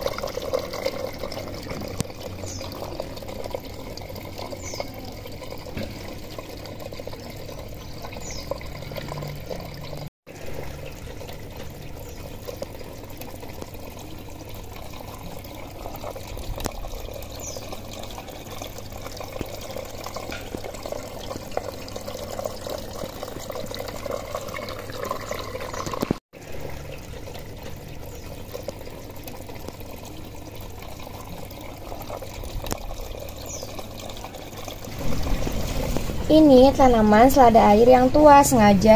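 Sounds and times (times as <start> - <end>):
water running and trickling: 0.0 - 38.9.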